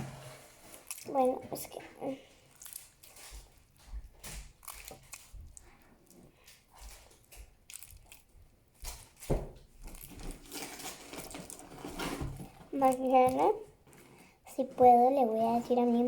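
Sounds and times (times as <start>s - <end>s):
slime being stretched and kneaded: 0.0s - 13.9s.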